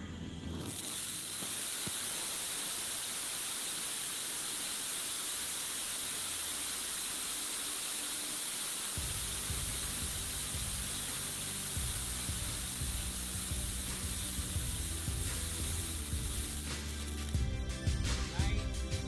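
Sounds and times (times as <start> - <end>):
ground firework hissing: 0.1 - 19.0.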